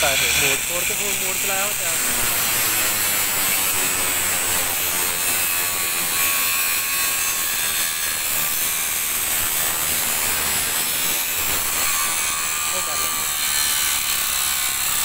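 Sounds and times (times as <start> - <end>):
angle grinder cutting steel: 0.0 - 15.0.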